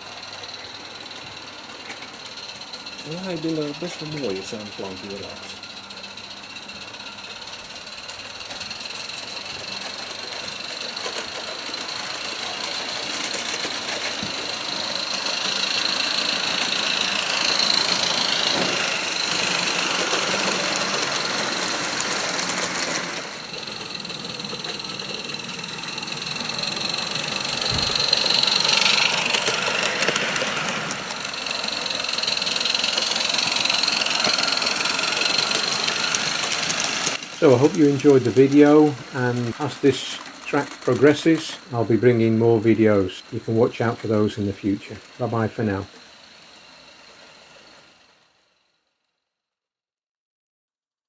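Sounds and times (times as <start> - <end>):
steam locomotive chuffing: 0.0 - 48.4.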